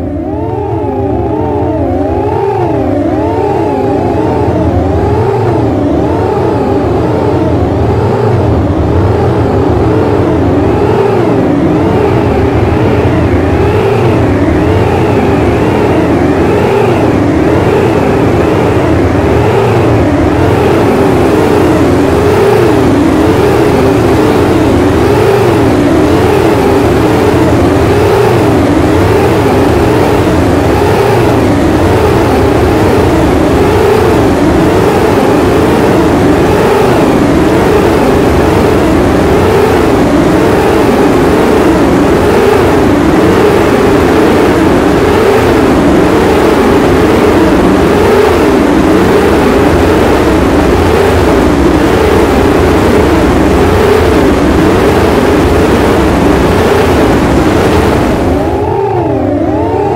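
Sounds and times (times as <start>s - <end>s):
loud steady low rumble: 0.0s - 59.9s
swooping drone tones: 0.0s - 59.9s.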